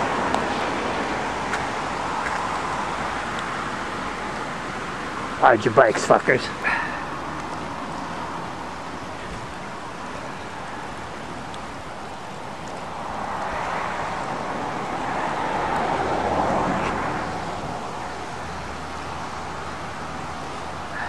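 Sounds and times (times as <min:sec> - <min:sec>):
car passing by: 0:00.0 - 0:21.0
outdoor background noise: 0:00.0 - 0:21.0.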